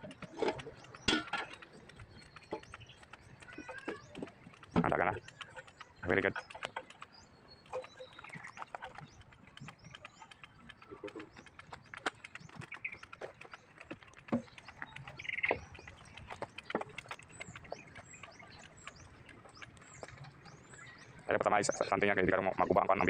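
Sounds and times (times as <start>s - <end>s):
faint bird chirps: 0.4s - 23.0s.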